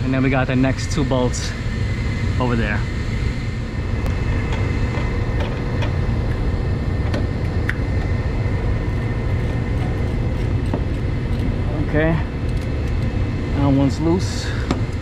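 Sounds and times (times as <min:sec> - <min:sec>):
equipment humming: 0:00.0 - 0:15.0.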